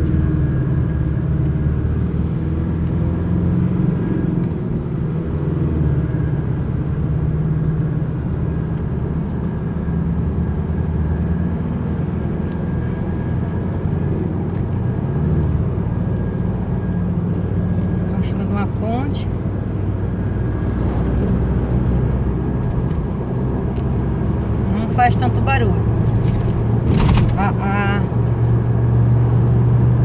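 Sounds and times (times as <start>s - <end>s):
pickup cabin road drone: 0.0s - 30.0s.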